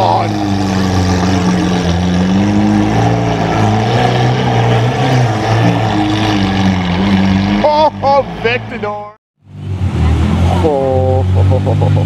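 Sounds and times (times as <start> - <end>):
car engine droning at low revs: 0.0 - 12.0.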